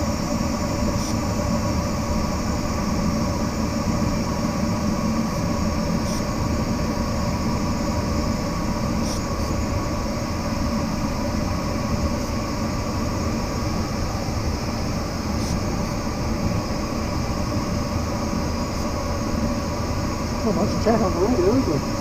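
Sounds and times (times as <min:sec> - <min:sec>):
airflow rushing in cockpit: 0:00.0 - 0:22.0
faint steady hum: 0:00.0 - 0:22.0.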